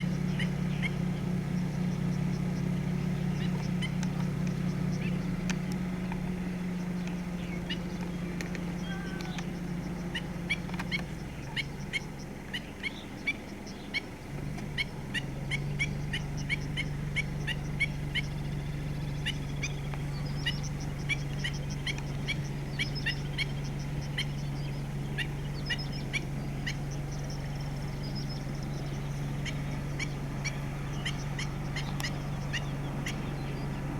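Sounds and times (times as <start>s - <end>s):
bird sharp alarm calls: 0.0s - 33.9s
steady low hum: 0.0s - 33.9s.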